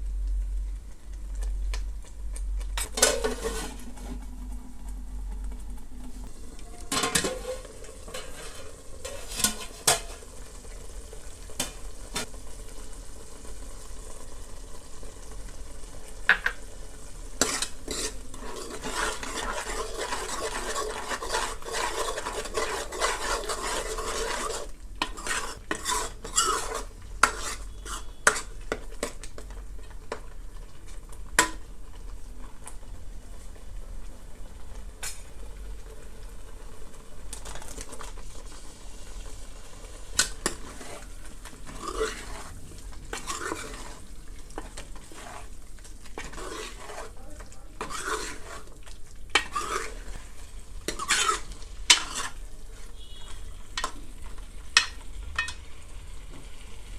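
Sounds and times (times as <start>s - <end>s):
sizzling: 0.0s - 56.9s
spoon stirring and scraping pan: 1.1s - 14.3s, 15.4s - 32.8s, 35.0s - 35.3s, 36.8s - 56.7s.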